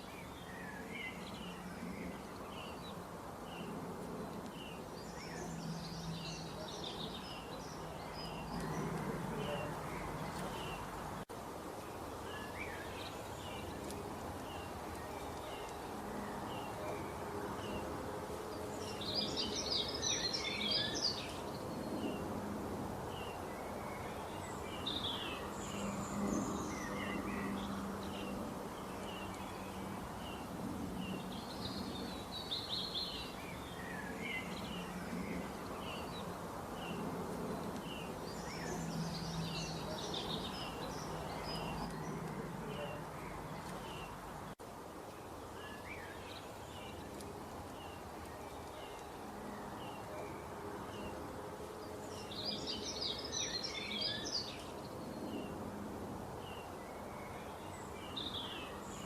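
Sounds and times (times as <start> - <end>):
small birds chirping: 0.0 - 55.7, 56.3 - 59.0
steady background hiss: 0.0 - 59.0.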